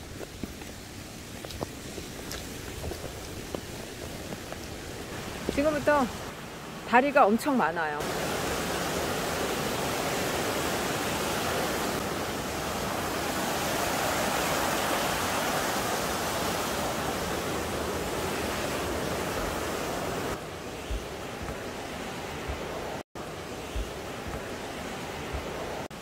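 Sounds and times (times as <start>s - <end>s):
stream splashing over rocks: 0.0s - 6.3s, 8.0s - 26.0s.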